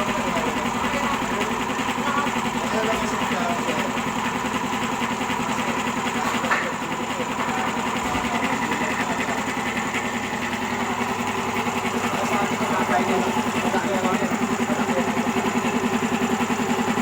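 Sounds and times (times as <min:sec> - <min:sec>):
air compressor pumping: 0:00.0 - 0:17.0.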